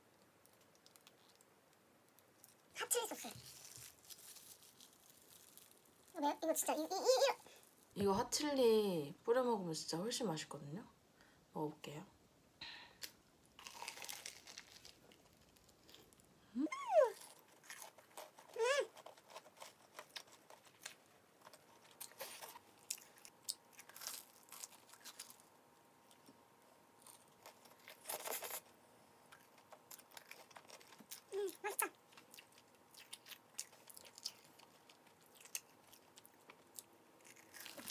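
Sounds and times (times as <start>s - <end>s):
crunching and chewing food: 0.0s - 8.0s, 13.0s - 16.4s, 17.0s - 37.9s.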